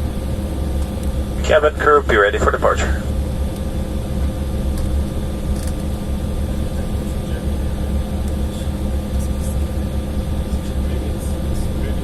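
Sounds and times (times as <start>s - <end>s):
airliner cabin drone: 0.0s - 12.0s
steady humming tones: 0.0s - 12.0s.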